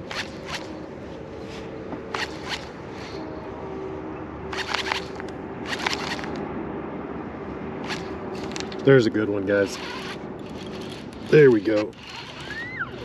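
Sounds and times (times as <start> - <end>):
trolling motor humming: 0.0 - 6.6, 7.8 - 13.0.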